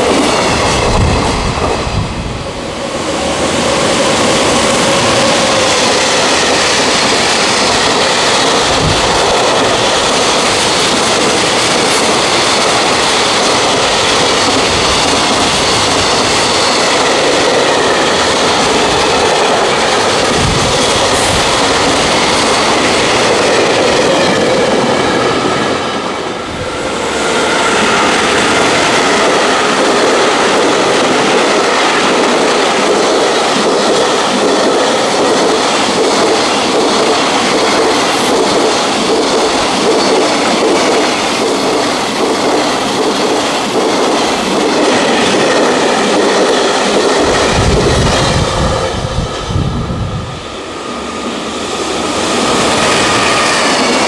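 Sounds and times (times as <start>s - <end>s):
train wagons clattering on rails: 0.0s - 49.2s.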